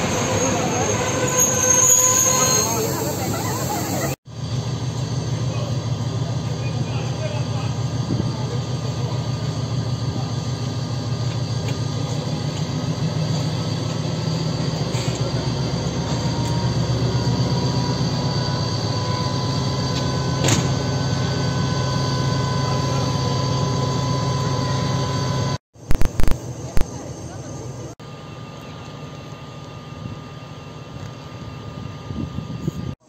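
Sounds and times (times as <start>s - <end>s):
diesel locomotive engine idling: 0.0s - 33.0s.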